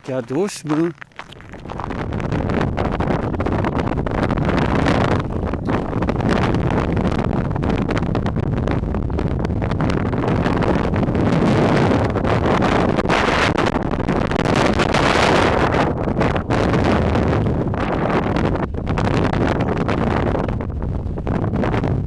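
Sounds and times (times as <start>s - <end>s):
blizzard wind buffeting microphone: 0.0s - 22.0s.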